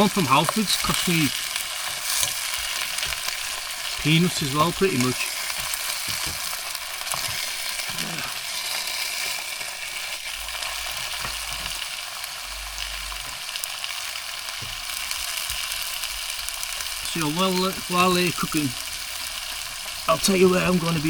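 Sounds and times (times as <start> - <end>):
sausages sizzling in a pan: 0.0 - 21.0.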